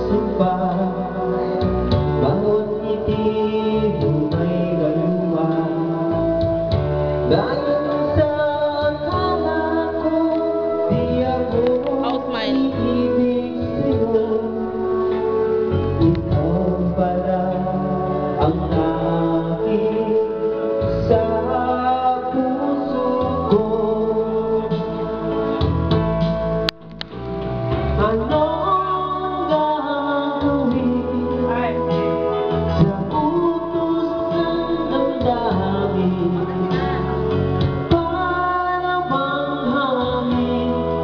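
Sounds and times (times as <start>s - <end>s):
man singing into a microphone: 0.0s - 26.1s, 27.9s - 41.0s
karaoke backing track: 0.0s - 41.0s.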